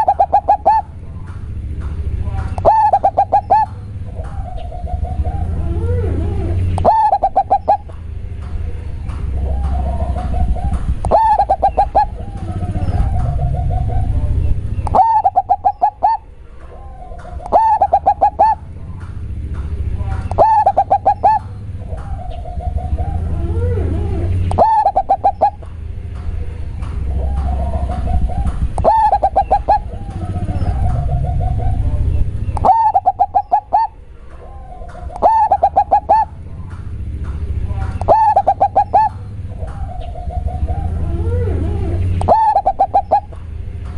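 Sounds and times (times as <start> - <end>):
dove cooing song: 0.0 - 43.9
steady low hum: 0.0 - 43.9.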